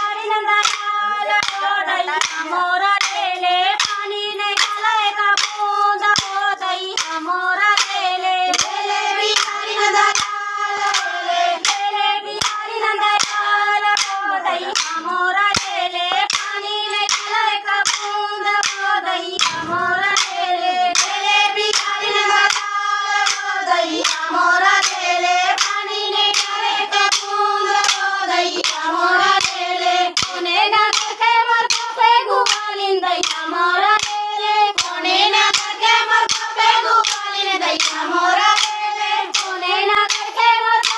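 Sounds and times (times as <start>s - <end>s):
women singing in unison: 0.0s - 40.9s
hand claps: 0.6s - 19.6s, 21.0s - 40.9s.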